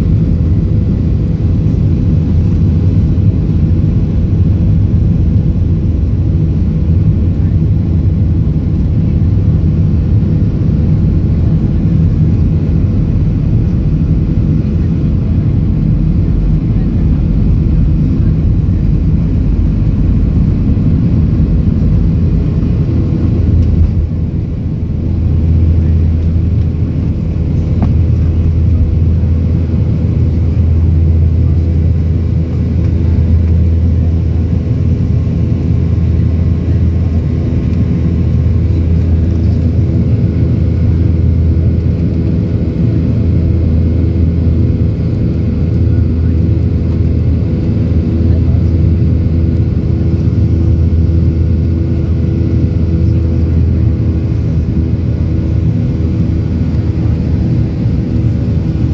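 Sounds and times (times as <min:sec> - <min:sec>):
jet engines roaring: 0:00.0 - 0:58.9
wheels rumbling on runway: 0:00.0 - 0:58.9.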